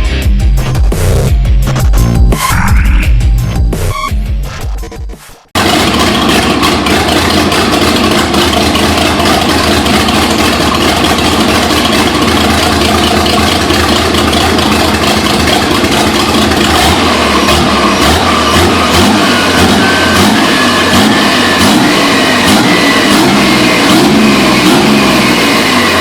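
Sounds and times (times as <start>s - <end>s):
loud car engine running: 0.0s - 26.0s
turbos spooling: 3.8s - 26.0s.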